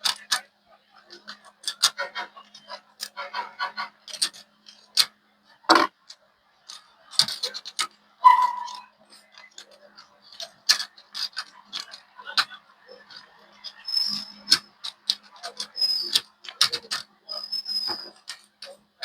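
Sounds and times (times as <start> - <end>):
small parts and tools clicking: 0.0 - 19.0.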